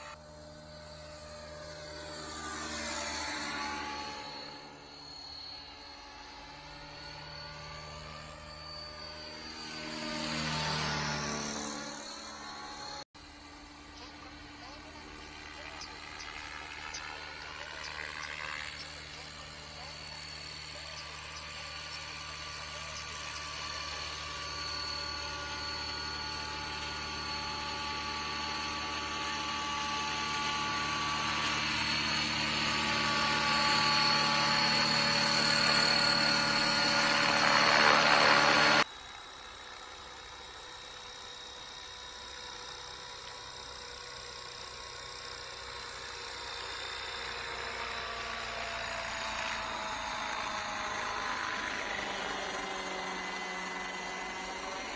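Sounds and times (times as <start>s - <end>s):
model helicopter rotor whine: 0.0s - 54.9s.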